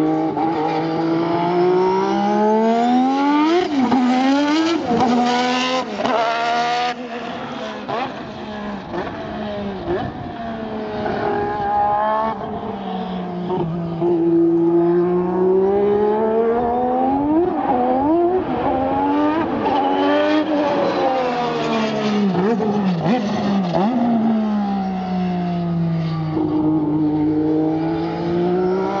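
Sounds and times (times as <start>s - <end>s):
racing car engine accelerating: 0.0s - 12.7s, 13.4s - 29.0s.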